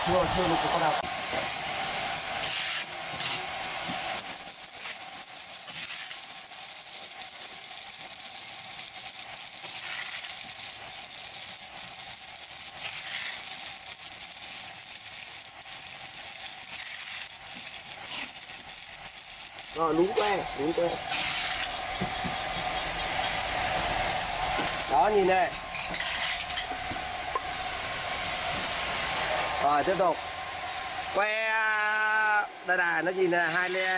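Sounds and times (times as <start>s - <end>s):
welding arc crackling: 0.0s - 33.9s.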